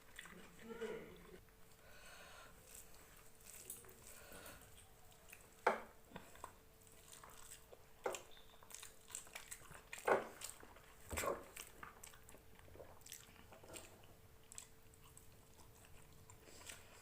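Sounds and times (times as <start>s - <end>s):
chewing food: 0.0s - 1.8s, 2.5s - 17.0s.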